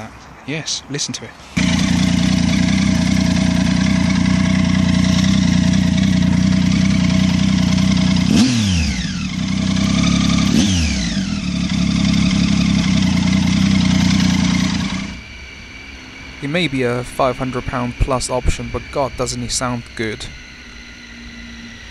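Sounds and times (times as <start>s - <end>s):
motorcycle engine running loudly: 1.6s - 21.9s.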